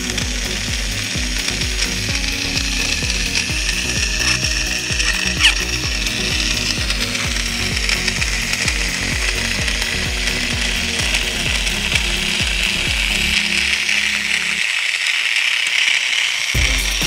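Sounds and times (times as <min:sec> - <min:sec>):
music with steady beat: 0:00.0 - 0:14.6, 0:16.6 - 0:17.0.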